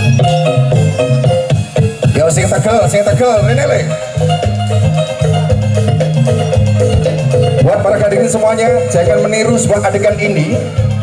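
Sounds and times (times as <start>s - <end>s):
music through loud pa system: 0.0s - 11.0s.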